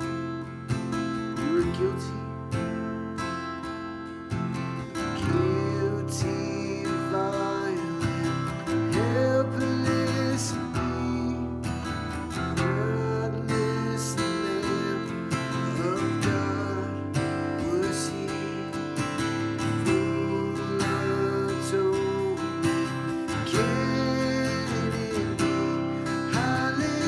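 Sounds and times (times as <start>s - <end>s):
acoustic guitar: 0.0s - 27.0s.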